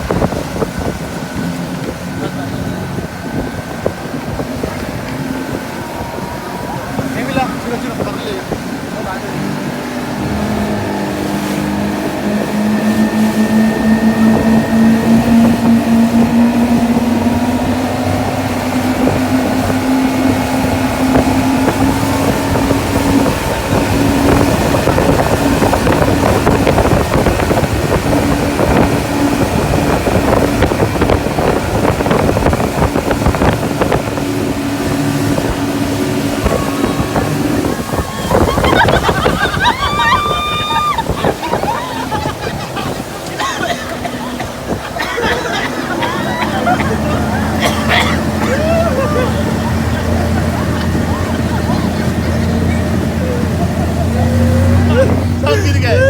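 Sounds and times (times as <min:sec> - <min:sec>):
motorboat engine running: 0:00.0 - 0:56.0
wind on microphone: 0:00.0 - 0:56.0.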